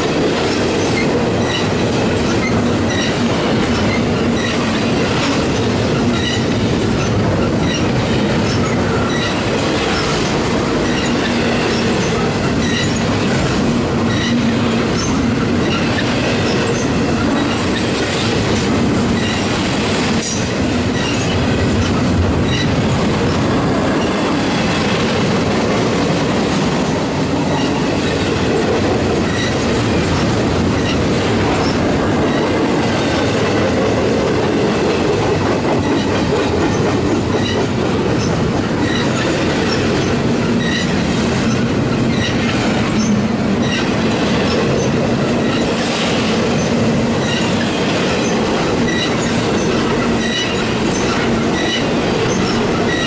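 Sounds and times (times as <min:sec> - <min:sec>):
steel wheels on rail: 0:00.0 - 0:53.0.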